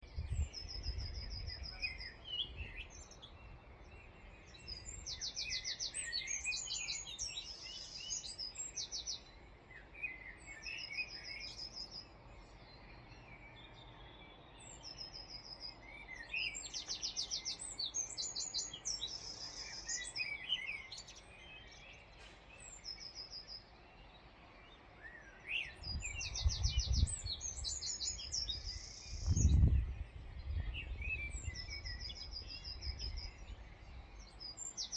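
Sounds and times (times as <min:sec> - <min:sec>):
low bird chirps: 0:00.0 - 0:34.9
songbird trilling song: 0:00.0 - 0:34.9.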